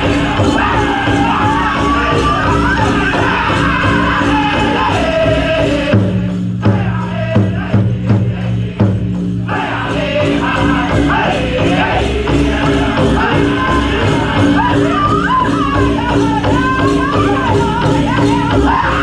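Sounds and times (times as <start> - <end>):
bells jingling: 0.0 - 7.2, 9.1 - 19.0
big drum beat: 0.0 - 19.0
men's voices singing in chorus: 0.0 - 19.0.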